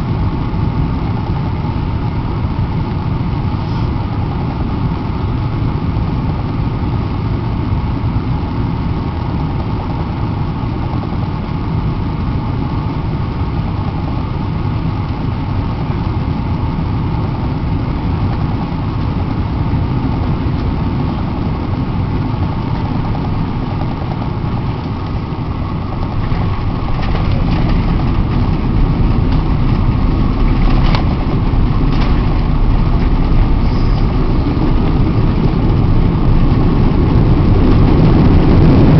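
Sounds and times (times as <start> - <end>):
airliner cabin engine noise: 0.0 - 38.9
faint hum: 0.0 - 38.9.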